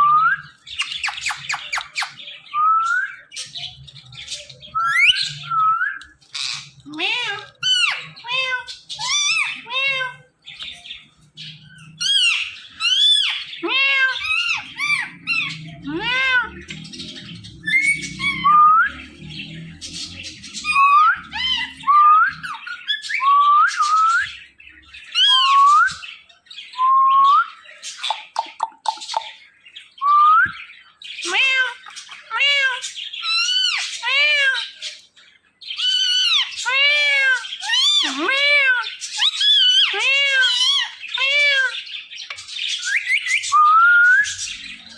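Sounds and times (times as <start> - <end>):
parrots squawking and chirping: 0.0 - 44.9.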